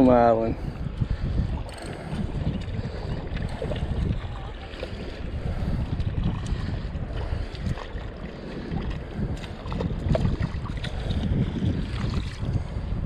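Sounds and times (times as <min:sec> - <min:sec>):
shallow water lapping: 0:00.0 - 0:13.0
wind buffeting microphone: 0:00.0 - 0:13.0.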